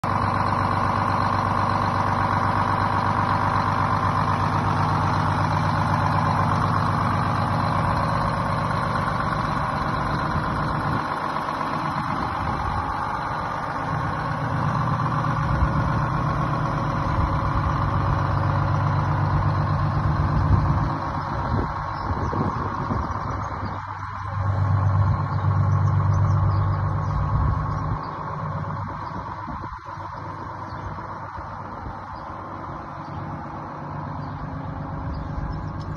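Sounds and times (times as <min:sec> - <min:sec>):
two-stroke diesel bus engine idling: 0:00.0 - 0:35.9.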